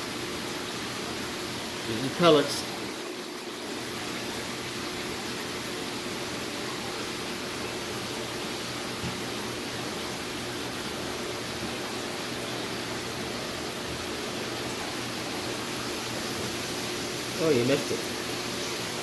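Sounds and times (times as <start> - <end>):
aquarium water rushing hiss: 0.0 - 19.0.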